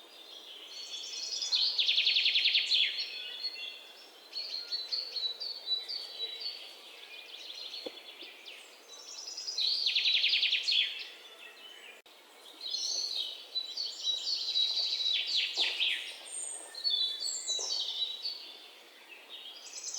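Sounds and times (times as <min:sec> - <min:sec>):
birds chirping and trilling: 0:00.1 - 0:19.9.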